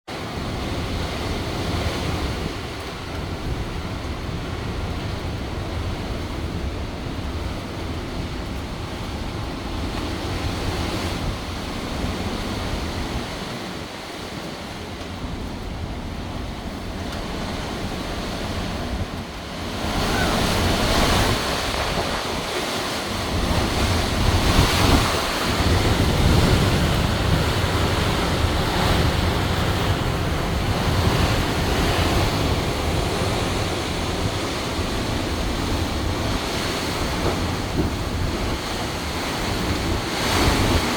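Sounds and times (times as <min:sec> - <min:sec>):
gusty storm wind buffeting microphone: 0:00.1 - 0:40.9.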